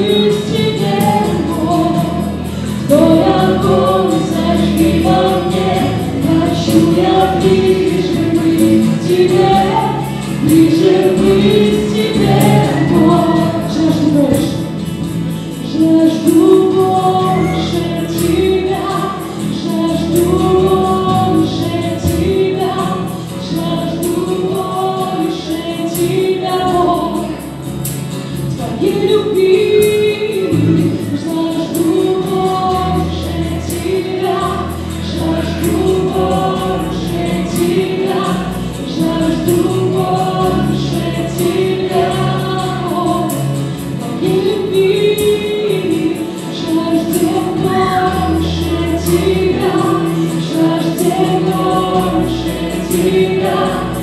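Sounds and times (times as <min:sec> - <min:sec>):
acoustic guitar: 0:00.0 - 0:54.0
bass guitar: 0:00.0 - 0:54.0
group singing worship song: 0:00.0 - 0:54.0
keyboard: 0:00.0 - 0:54.0.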